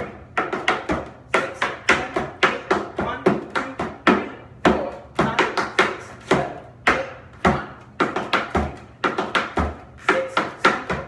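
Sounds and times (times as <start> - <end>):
tap shoes striking wooden board: 0.0 - 11.0.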